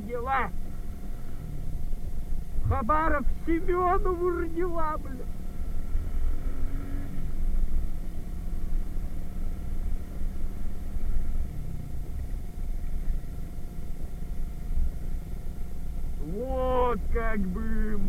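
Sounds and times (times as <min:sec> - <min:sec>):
moped engine running: 0:00.0 - 0:18.0.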